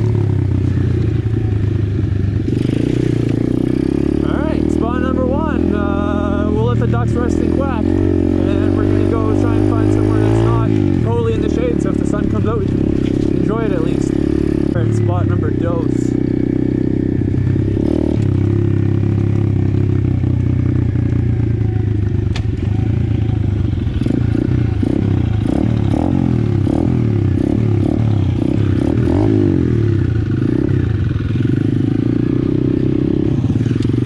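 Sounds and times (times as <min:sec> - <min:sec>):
dirt bike engine revving: 0:00.0 - 0:34.0
second dirt bike engine: 0:00.0 - 0:34.0.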